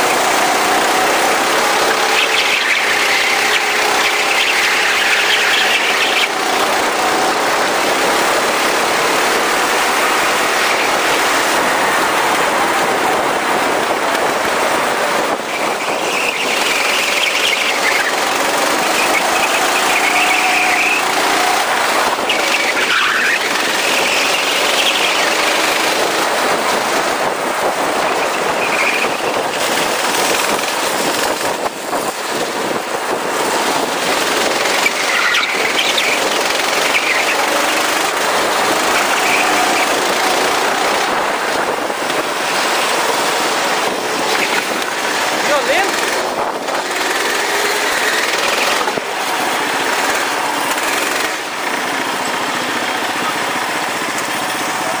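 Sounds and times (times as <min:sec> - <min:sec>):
tyres squealing: 0:00.0 - 0:07.7, 0:15.2 - 0:31.0, 0:33.4 - 0:55.0
go-kart engine running: 0:00.0 - 0:55.0.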